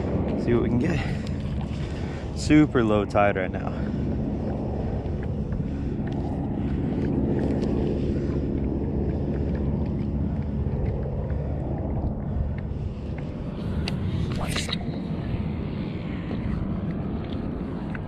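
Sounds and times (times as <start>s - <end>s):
low engine hum: 0.0s - 18.0s
wind on microphone: 0.0s - 18.0s.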